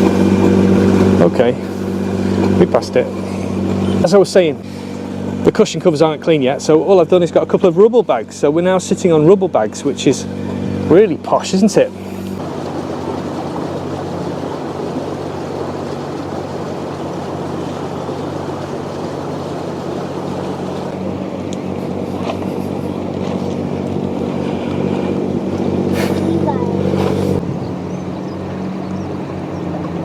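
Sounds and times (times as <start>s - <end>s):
rushing water and wind: 0.0s - 7.2s, 8.5s - 30.0s
boat engine droning: 0.0s - 30.0s.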